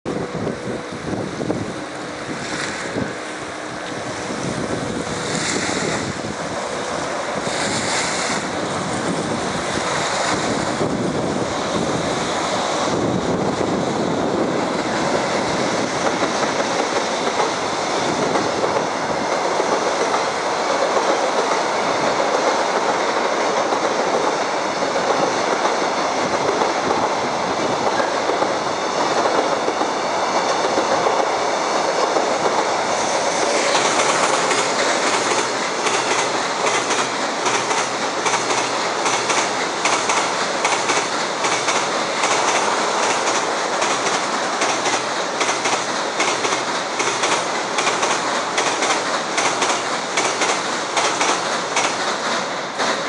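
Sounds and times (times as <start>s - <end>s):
freight train rumbling over bridge: 0.0s - 53.0s
wind buffeting microphone: 0.1s - 52.8s.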